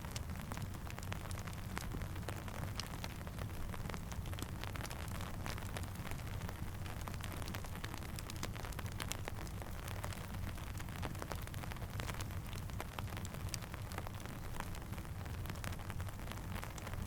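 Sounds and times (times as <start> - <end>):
campfire crackling: 0.0 - 17.0
steady rain pattering: 0.0 - 17.0.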